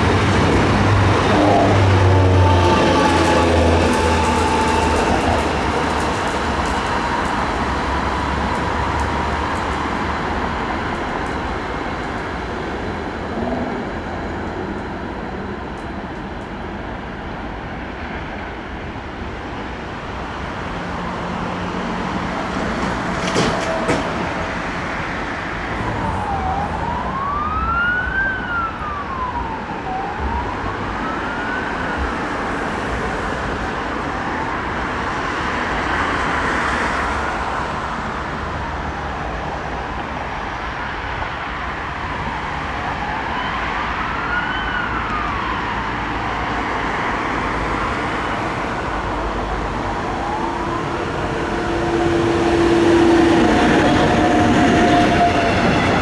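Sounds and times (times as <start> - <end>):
emergency vehicle wail siren: 0.0 - 14.8, 21.2 - 56.0
traffic rumble: 0.0 - 56.0.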